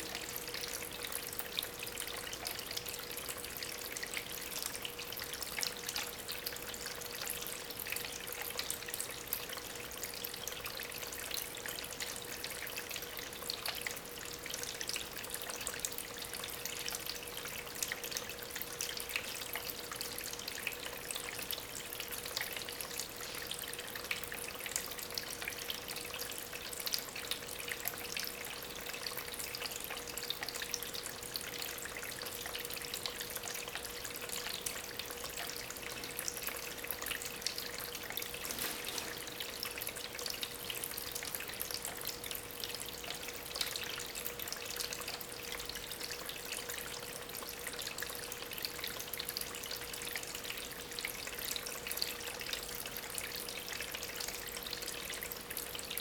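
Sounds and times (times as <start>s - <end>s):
faint pump hum: 0.0s - 56.0s
water trickling over stones: 0.0s - 56.0s.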